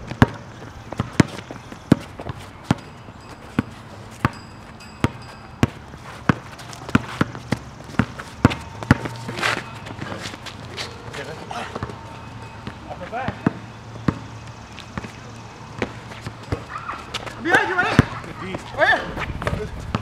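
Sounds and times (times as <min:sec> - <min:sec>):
basketball bouncing on asphalt: 0:00.0 - 0:20.0.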